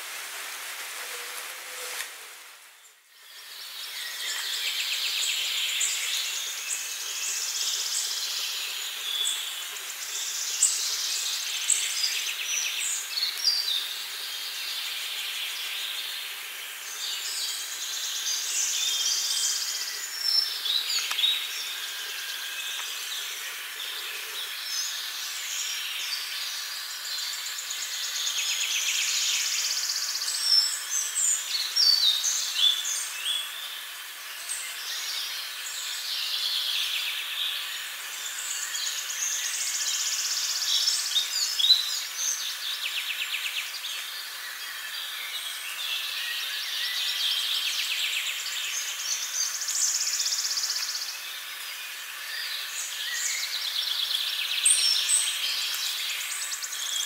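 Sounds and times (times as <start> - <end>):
steady high hiss: 0.0 - 57.0
songbirds singing: 2.8 - 57.0.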